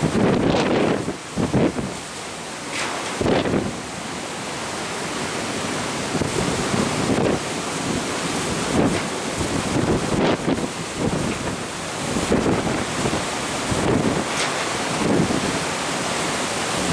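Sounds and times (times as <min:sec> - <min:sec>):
wind buffeting microphone: 0:00.0 - 0:02.1, 0:03.1 - 0:03.8, 0:06.0 - 0:16.9
sea water rushing past ship: 0:00.0 - 0:16.9.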